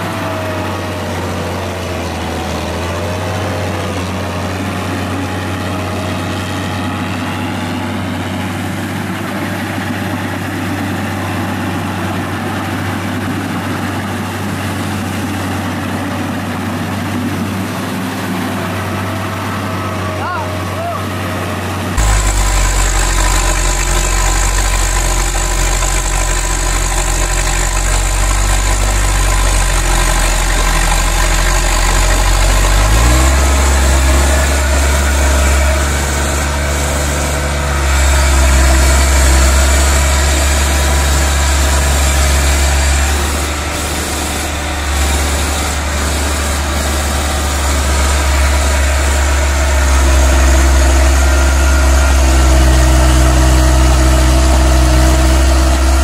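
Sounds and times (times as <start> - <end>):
tractor engine running hard: 0.0 - 56.0.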